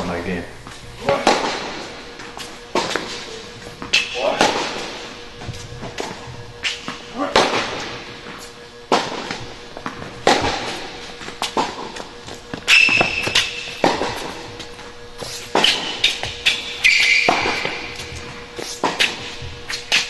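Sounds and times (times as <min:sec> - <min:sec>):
racket hitting tennis ball: 0:00.6 - 0:20.0
sneakers squeaking on court: 0:00.6 - 0:20.0.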